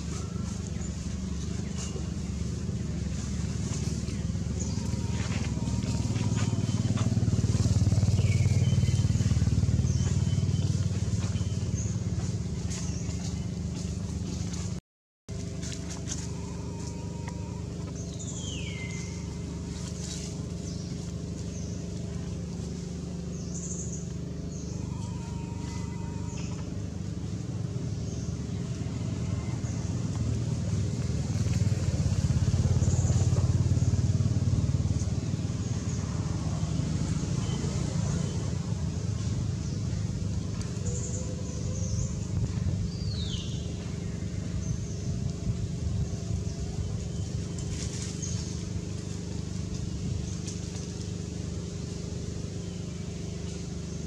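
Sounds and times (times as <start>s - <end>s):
engine pulsing low rumble: 0.0s - 54.0s.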